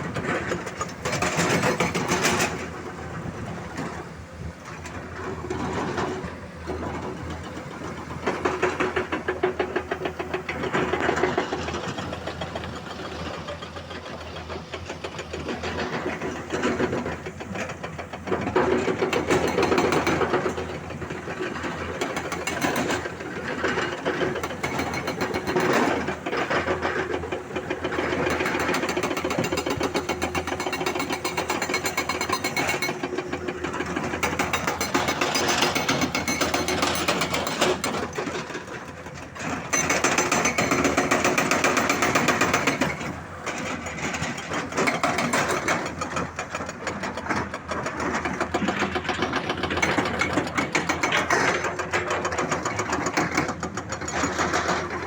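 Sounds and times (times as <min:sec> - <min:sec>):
excavator diesel engine pulsing: 0:00.0 - 0:55.0.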